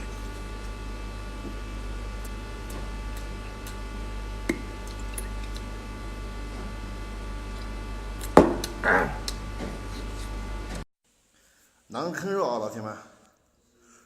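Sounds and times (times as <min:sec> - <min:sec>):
low electrical hum: 0:00.0 - 0:13.9.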